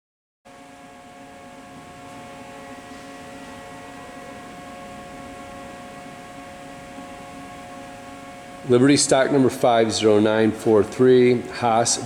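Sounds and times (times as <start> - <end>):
electrical hum of machinery: 0.5 - 12.0.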